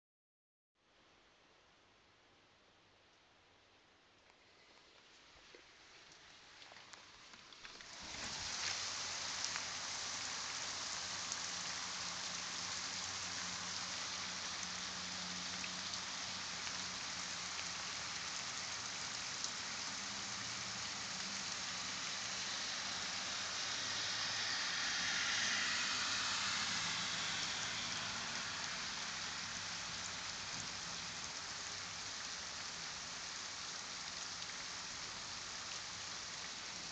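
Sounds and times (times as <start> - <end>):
rain pouring on wet street: 5.7 - 36.9.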